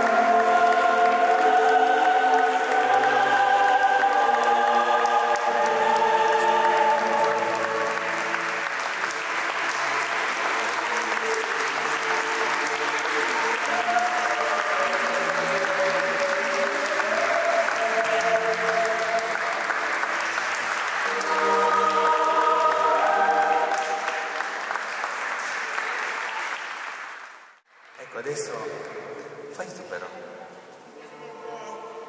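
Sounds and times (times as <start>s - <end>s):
audience applauding: 0.0s - 29.7s
choral music with held notes: 0.0s - 32.0s.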